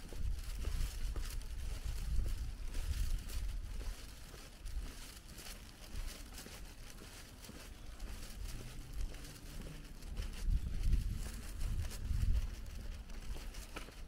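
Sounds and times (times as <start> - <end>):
faint street ambience: 0.0 - 14.0
wind rumble on microphone: 0.0 - 14.0.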